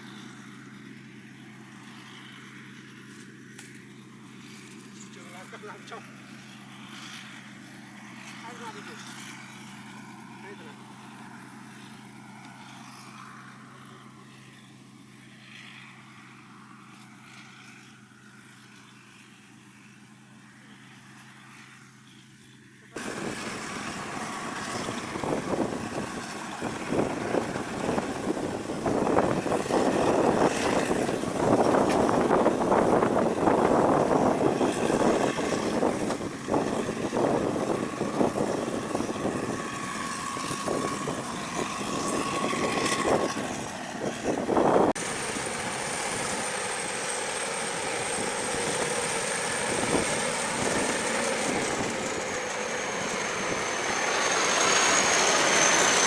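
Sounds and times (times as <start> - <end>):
combine harvester machinery drone: 0.0 - 56.0.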